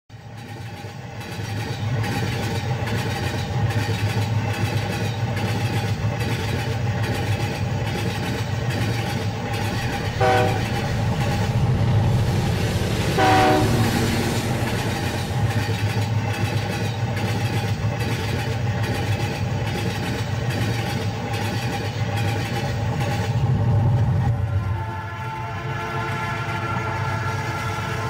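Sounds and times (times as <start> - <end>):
steam train rumbling: 0.1 - 28.0.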